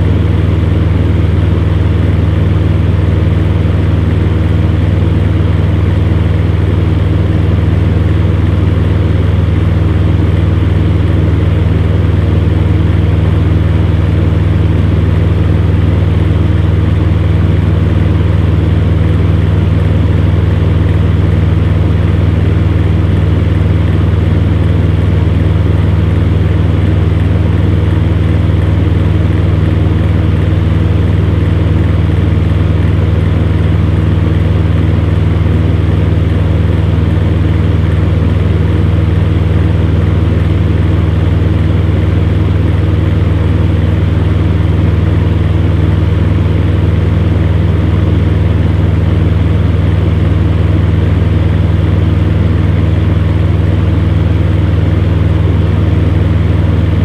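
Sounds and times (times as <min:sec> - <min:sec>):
electric fan hum: 0:00.0 - 0:57.0.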